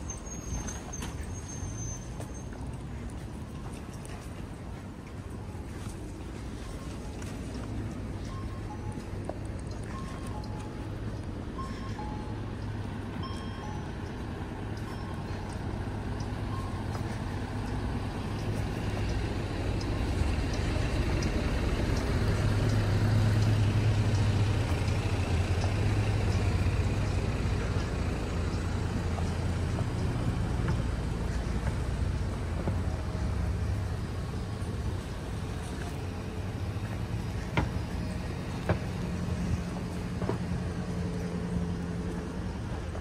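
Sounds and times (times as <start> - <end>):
vehicle engine hum passing: 0.0 - 43.0.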